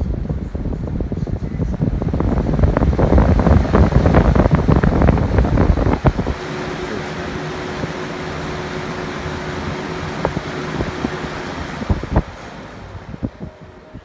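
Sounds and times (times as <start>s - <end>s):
fan airflow buffeting microphone: 0.0s - 14.0s
fan motor hum: 0.0s - 14.0s.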